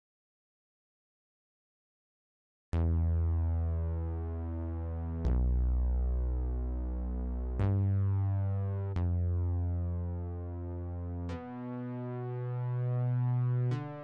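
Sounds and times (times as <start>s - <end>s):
slow low sustained music notes: 2.8s - 14.0s.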